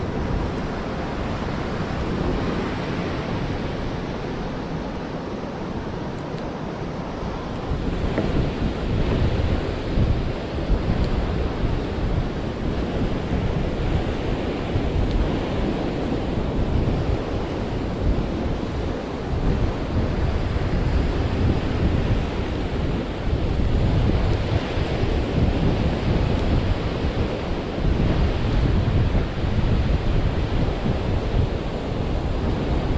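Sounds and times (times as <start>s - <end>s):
surf on a beach: 0.0s - 32.9s
wind buffeting microphone: 0.0s - 32.9s.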